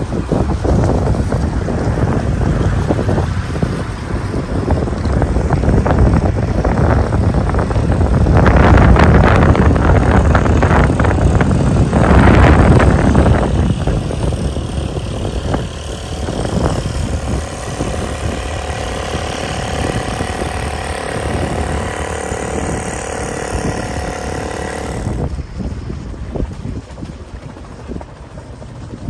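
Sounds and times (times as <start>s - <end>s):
outboard motor running: 0.0s - 29.0s
wind buffeting microphone: 0.0s - 29.0s.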